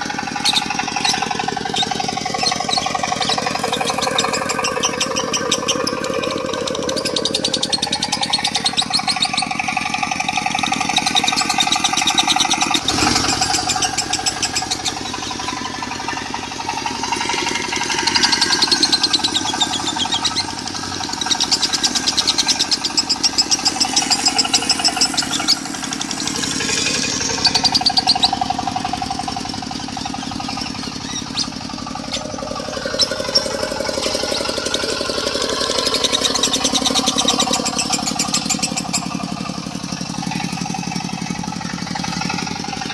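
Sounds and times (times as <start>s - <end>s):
diesel engine running: 0.0s - 42.9s
lovebird chattering trills: 0.0s - 42.9s.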